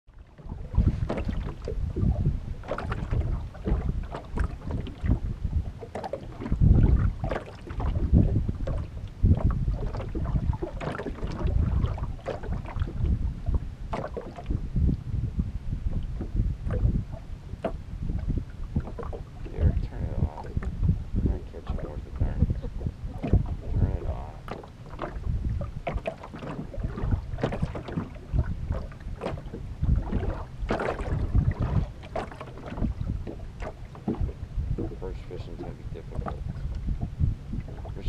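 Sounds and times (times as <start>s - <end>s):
waves slapping against boat hull: 0.1s - 38.0s
wind buffeting microphone: 0.1s - 38.0s.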